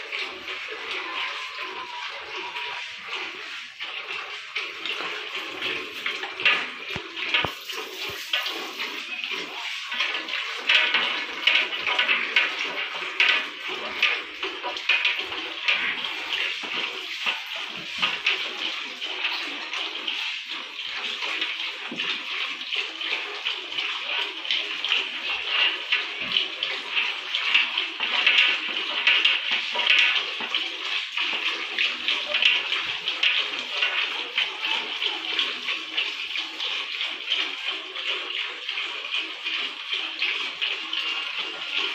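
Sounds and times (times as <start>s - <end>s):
milk squirting into steel pot: 0.0s - 41.9s.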